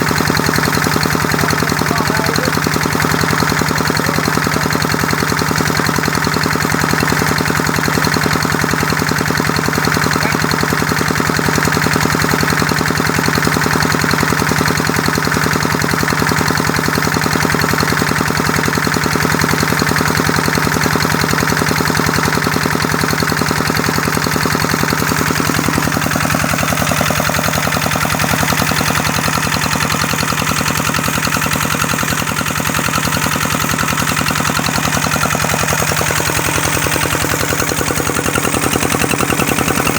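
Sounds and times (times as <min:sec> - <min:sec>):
engine knocking steadily: 0:00.0 - 0:39.9.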